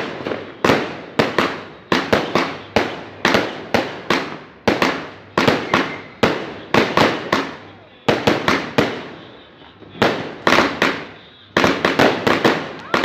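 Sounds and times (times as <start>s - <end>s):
fireworks banging: 0.0s - 13.0s.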